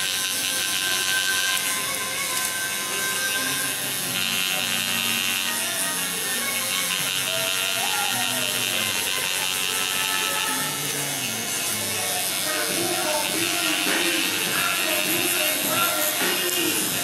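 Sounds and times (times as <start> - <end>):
tattoo machine buzzing: 0.0 - 17.0.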